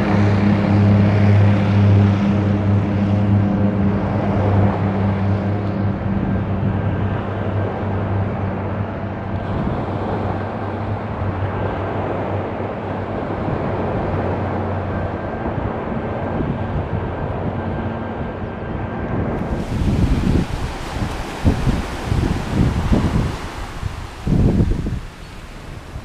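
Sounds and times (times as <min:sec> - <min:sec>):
propeller aircraft engines droning: 0:00.0 - 0:26.0.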